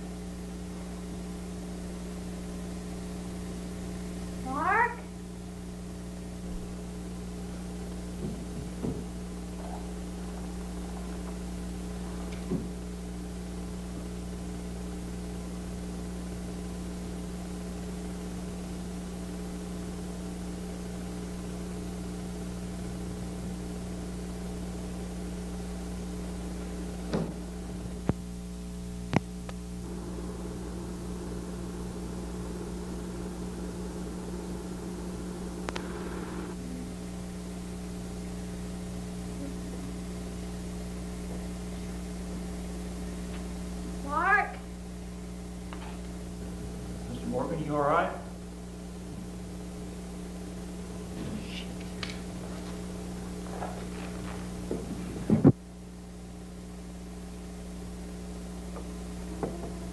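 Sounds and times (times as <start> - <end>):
mains hum with hiss: 0.0 - 59.9.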